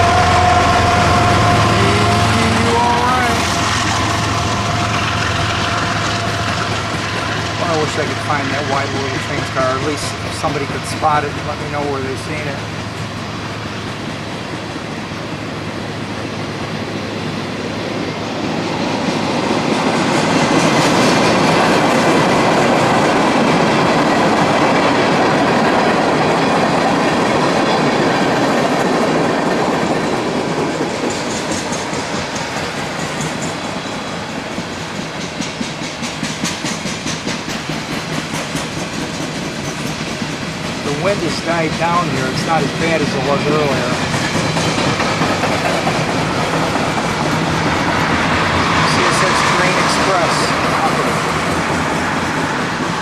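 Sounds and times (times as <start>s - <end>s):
freight train cars rolling: 0.0s - 53.0s
wheels clicking over rail joints: 0.0s - 53.0s.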